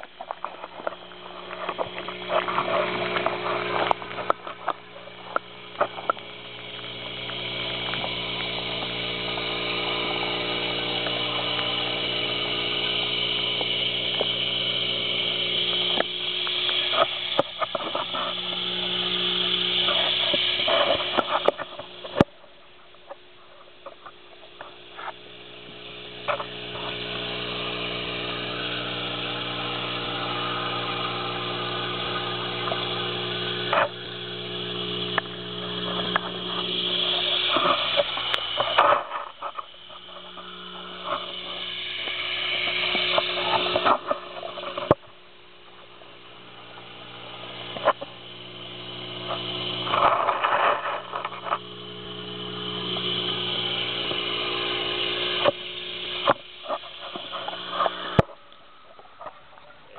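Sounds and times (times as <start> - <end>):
aquarium equipment hum: 0.0 - 59.9.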